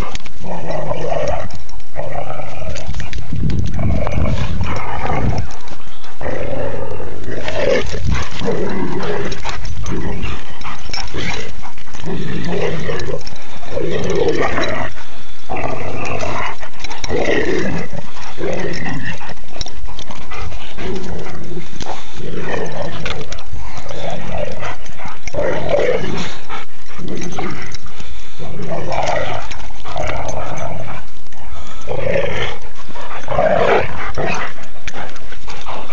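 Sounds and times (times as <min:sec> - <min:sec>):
dog play-growling and whining: 0:00.0 - 0:35.9.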